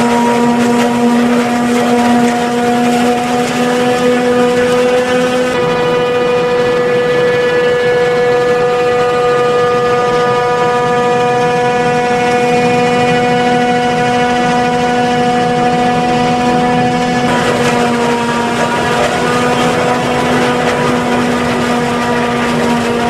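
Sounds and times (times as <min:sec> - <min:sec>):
engine drone: 0:00.0 - 0:23.0
harvester machine whine: 0:00.0 - 0:23.0.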